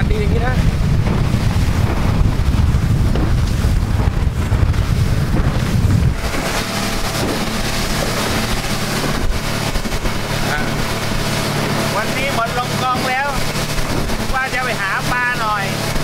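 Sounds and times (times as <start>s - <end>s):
outboard motor drone: 0.0s - 16.0s
water hissing: 0.0s - 16.0s
wind buffeting microphone: 0.0s - 16.0s.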